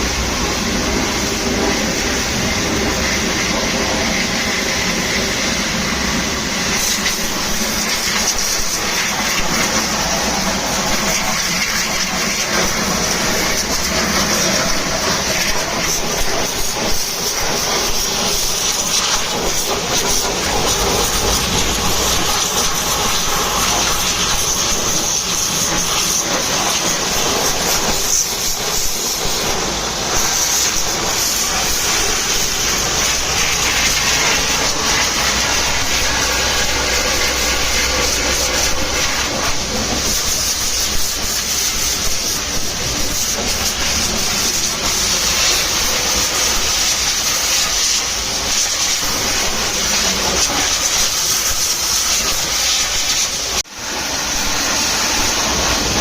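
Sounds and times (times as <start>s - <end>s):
water jet spraying: 0.0s - 56.0s.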